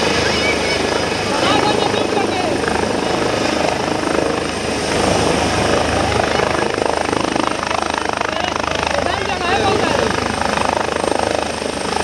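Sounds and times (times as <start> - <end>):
helicopter rotor and turbine: 0.0 - 12.0.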